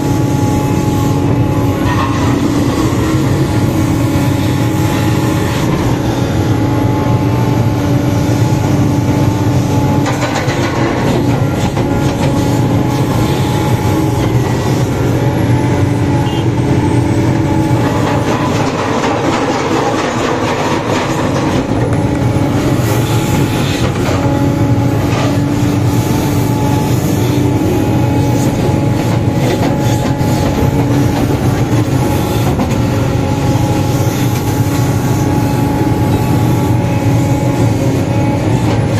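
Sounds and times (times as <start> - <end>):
excavator diesel engine running: 0.0 - 38.9
hydraulics whining: 0.0 - 38.9.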